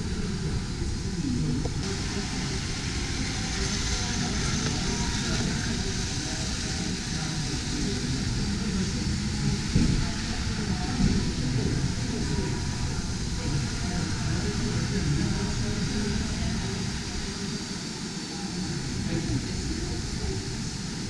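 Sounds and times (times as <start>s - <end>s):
hubbub of indistinct voices: 0.0s - 21.0s.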